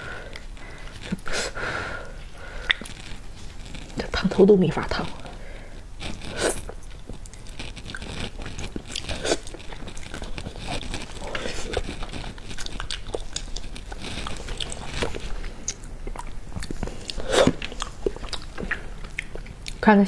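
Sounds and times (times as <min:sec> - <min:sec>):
person chewing food: 0:00.0 - 0:04.1, 0:05.0 - 0:19.8.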